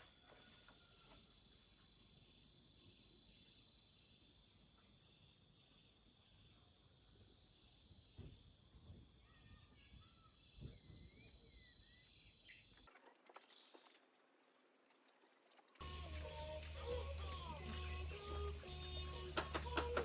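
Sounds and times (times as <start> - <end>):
crickets and insects chorus: 0.0 - 12.8, 15.8 - 20.0.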